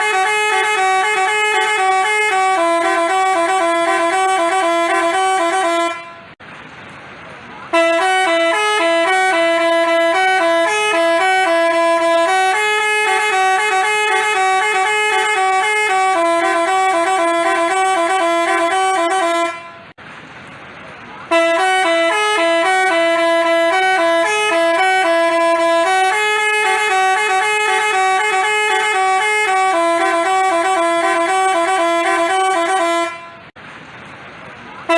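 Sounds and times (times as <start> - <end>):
multi-tone bus horn melody: 0.0 - 6.4, 7.7 - 20.0, 21.2 - 33.6.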